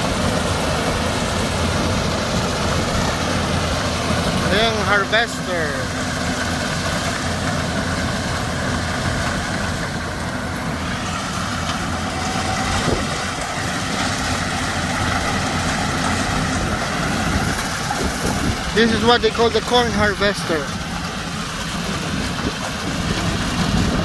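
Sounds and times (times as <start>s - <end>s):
harvester engine drone: 0.0s - 24.0s.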